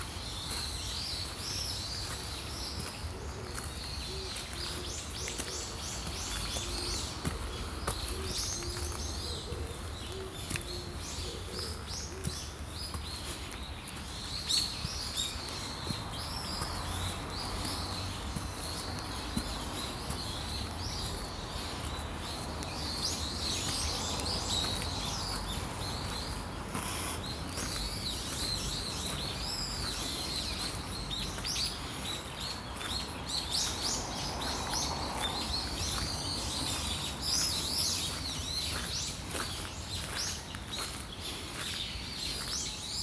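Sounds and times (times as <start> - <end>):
small songbirds chirping: 0.0 - 43.0.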